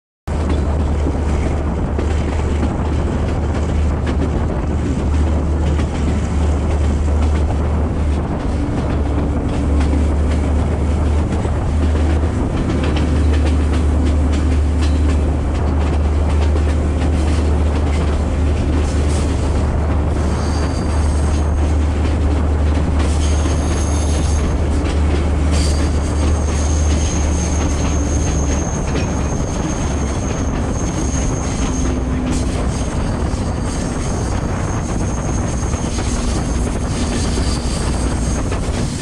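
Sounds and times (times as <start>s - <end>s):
train rumbling on track: 0.3s - 39.0s
wind on microphone: 0.3s - 39.0s.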